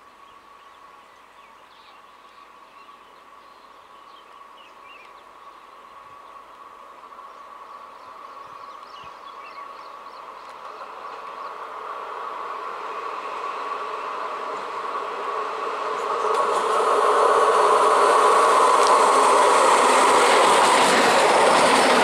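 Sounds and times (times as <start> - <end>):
electric train approaching: 0.0 - 22.0.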